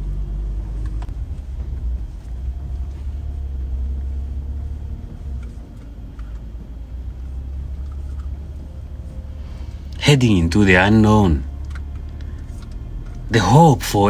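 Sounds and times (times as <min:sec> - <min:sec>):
vehicle engine and tyres rumbling: 0:00.0 - 0:14.0.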